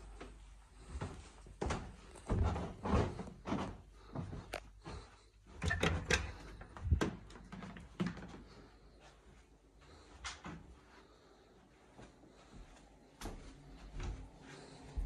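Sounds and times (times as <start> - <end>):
footsteps on carpet: 0.0 - 5.5, 6.8 - 15.0.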